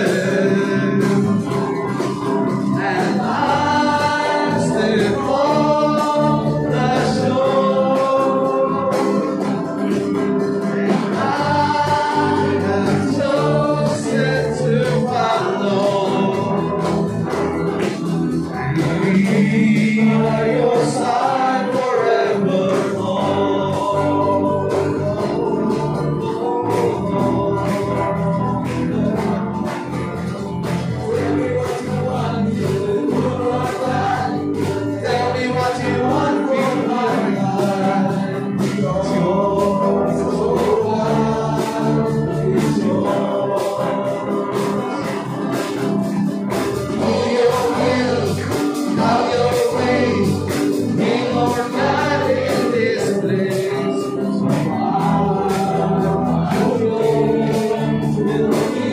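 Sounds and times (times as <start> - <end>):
acoustic guitar: 0.0 - 58.9
electric guitar: 0.0 - 58.9
keyboard: 0.0 - 58.9
man singing: 0.0 - 58.9.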